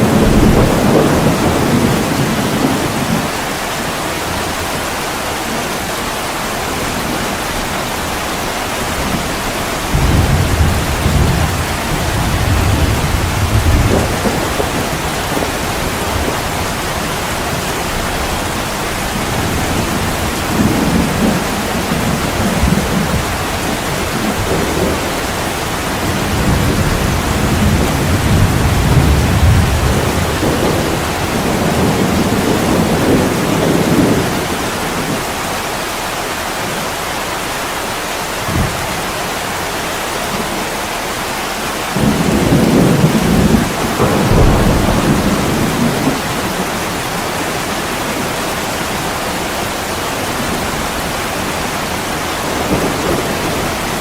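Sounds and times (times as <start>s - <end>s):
thunder rumbling: 0.0s - 35.4s, 41.8s - 54.0s
heavy rain: 0.0s - 54.0s.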